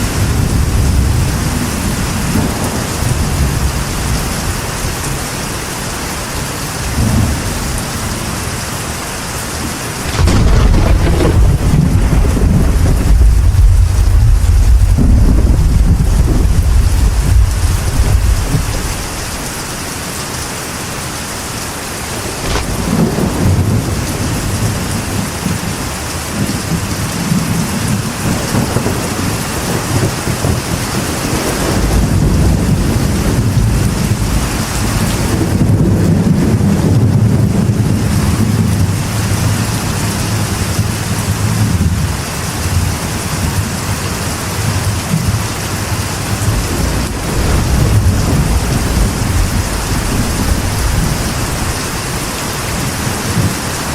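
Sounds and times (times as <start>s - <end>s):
thunder rumbling: 0.0s - 5.5s, 9.6s - 19.7s, 21.8s - 53.9s
rain drumming on metal roof: 0.0s - 53.9s.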